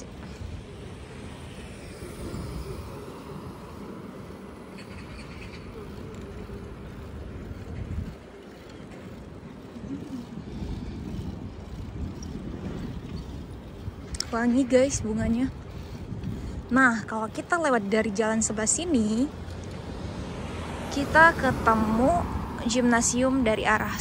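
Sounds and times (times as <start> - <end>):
truck passing: 0.0 - 13.9, 14.6 - 24.0
wind and road noise: 0.0 - 24.0.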